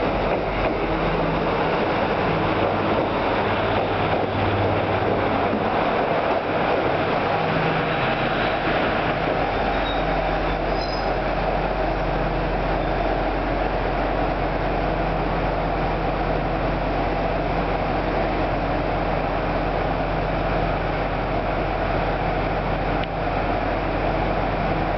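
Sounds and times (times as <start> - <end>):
diesel railcar engine idling: 0.0 - 24.9.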